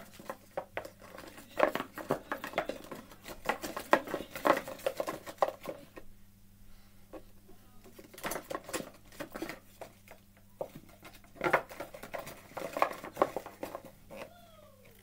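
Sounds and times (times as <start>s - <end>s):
rummaging through paper tags: 0.0s - 6.0s, 7.8s - 15.0s.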